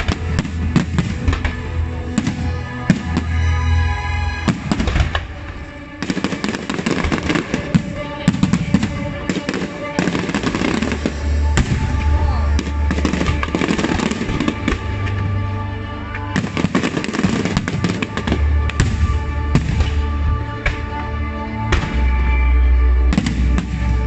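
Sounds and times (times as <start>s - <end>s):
fireworks bursting: 0.0s - 21.1s, 23.0s - 24.0s
music playing: 0.0s - 24.0s.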